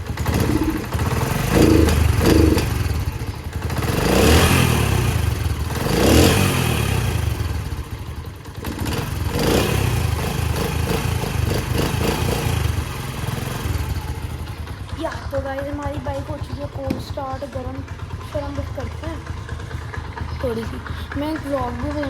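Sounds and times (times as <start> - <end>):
small motorcycle engine revving: 0.0 - 22.0.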